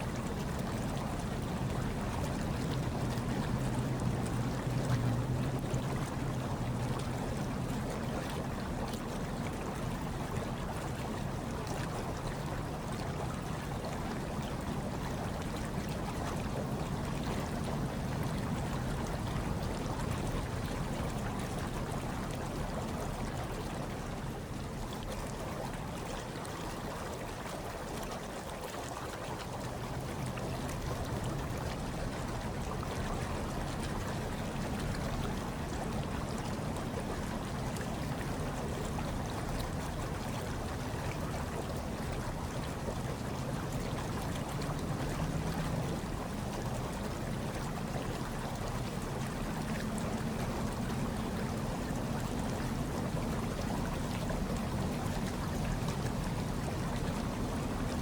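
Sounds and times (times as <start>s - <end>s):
hot tub water bubbling: 0.0s - 58.0s.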